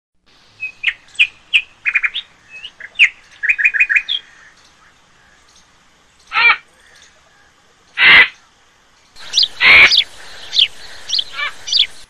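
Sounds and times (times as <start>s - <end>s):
birds chirping: 0.6s - 12.0s.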